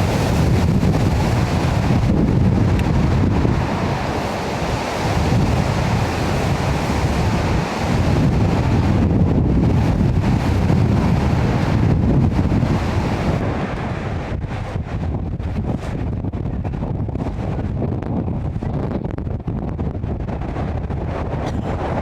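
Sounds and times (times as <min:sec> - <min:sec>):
rough sea surf: 0:00.0 - 0:22.0
storm wind buffeting microphone: 0:00.0 - 0:22.0.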